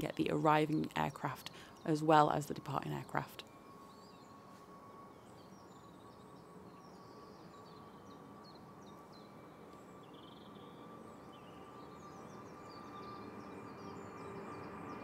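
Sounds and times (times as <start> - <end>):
small birds chirping: 0.0 - 15.0
thin steady whine: 0.0 - 15.0.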